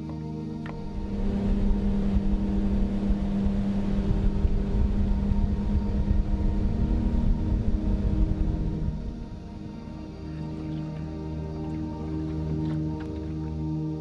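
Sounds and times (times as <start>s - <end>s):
outboard motor droning: 0.0s - 14.0s.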